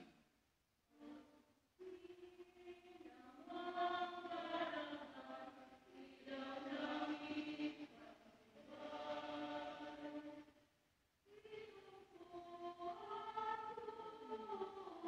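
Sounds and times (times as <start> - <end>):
slow chanted hymn singing: 1.0 - 10.6, 11.3 - 15.0.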